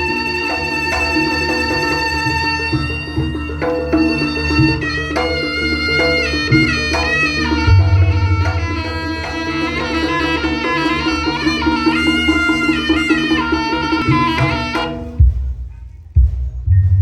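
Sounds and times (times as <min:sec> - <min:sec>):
shrill reed melody: 0:00.0 - 0:15.3
hand drumming: 0:00.0 - 0:17.0.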